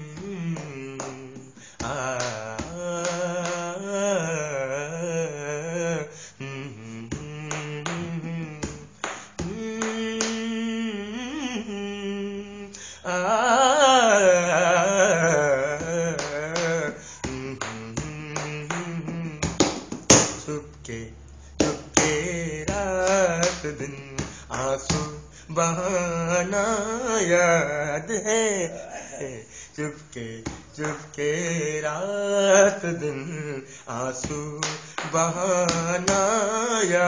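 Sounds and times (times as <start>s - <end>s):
man humming and vocalising: 0.0s - 19.6s, 21.8s - 37.0s.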